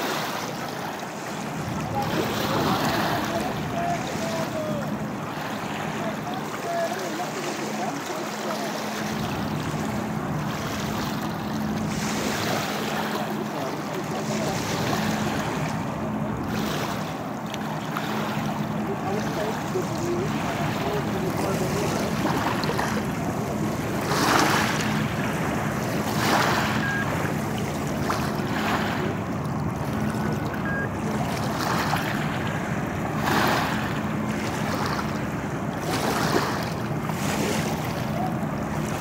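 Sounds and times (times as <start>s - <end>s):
boat engines humming: 0.0s - 39.0s
water: 0.0s - 39.0s.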